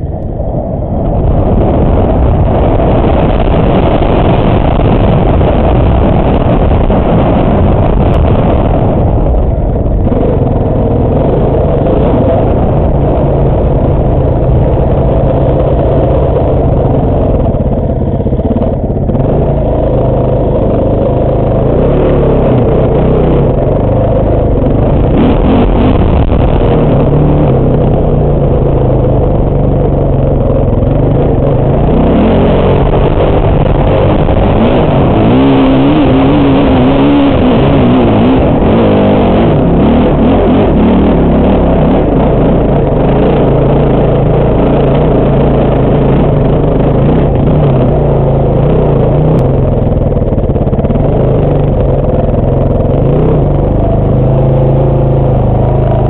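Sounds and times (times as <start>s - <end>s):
dirt bike engine revving: 1.2s - 56.0s.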